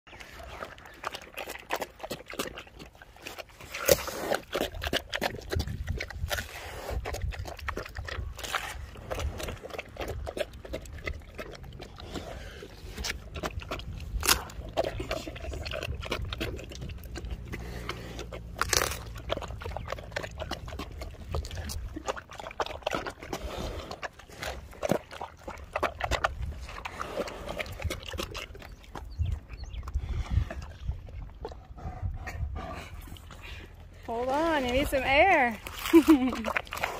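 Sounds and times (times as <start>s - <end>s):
bear chewing watermelon: 0.1s - 36.9s
watermelon rind cracking: 0.7s - 29.6s, 35.6s - 36.9s.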